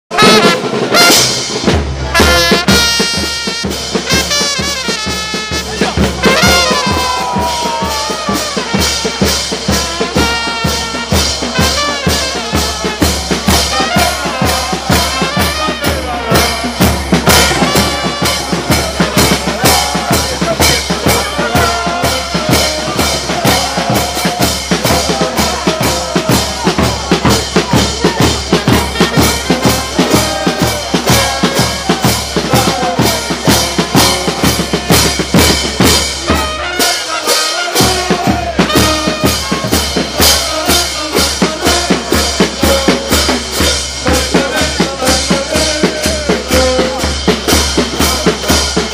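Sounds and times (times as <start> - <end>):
bass drum and crash cymbals: 0.1 - 48.9
fans cheering and chanting: 0.1 - 48.9.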